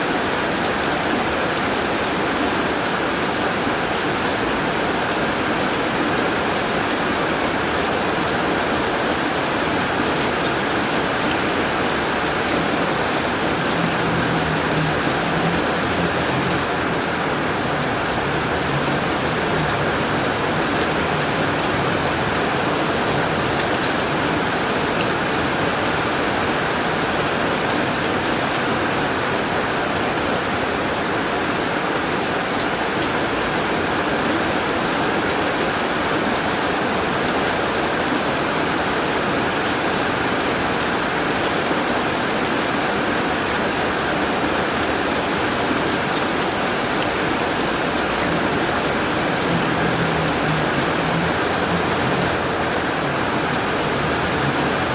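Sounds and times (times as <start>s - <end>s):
rain on a tin roof: 0.0s - 54.9s.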